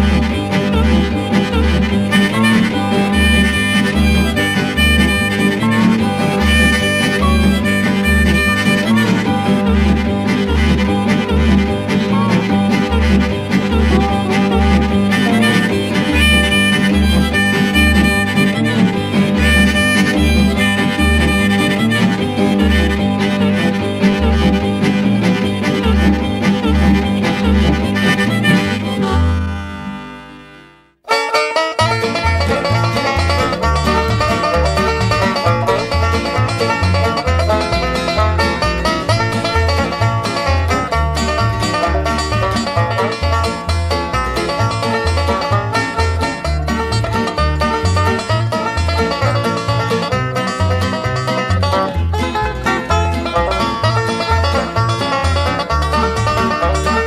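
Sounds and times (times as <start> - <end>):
harmonica-led tune with guitar: 0.0 - 57.0.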